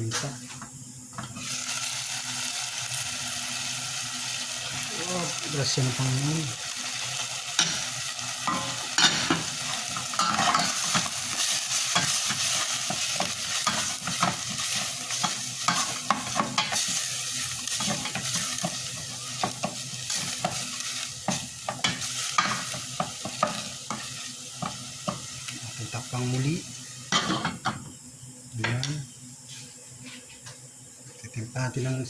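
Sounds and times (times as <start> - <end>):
chicken sizzling in a pan: 1.4 - 27.6.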